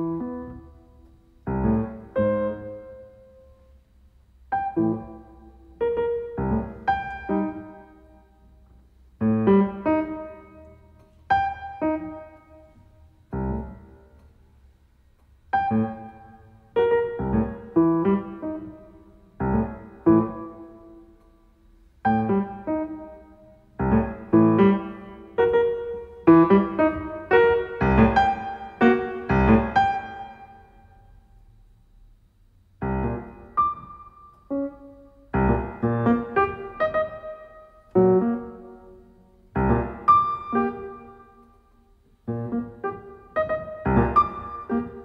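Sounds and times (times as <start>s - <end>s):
solo piano chords: 0.0s - 31.7s, 32.6s - 45.0s.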